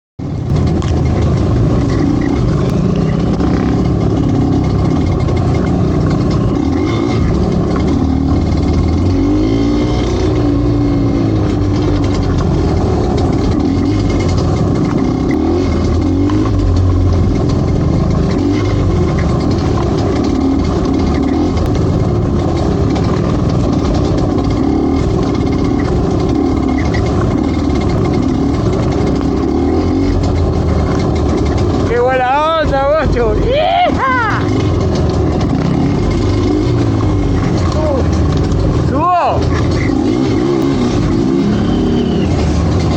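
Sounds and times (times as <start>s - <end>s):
motorcycle engine revving: 0.2s - 42.9s.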